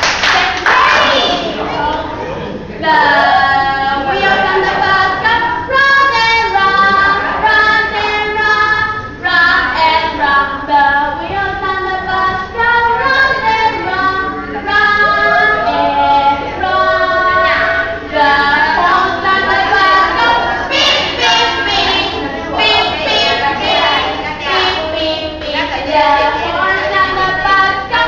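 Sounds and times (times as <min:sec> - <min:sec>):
woman and children singing: 0:02.8 - 0:28.0.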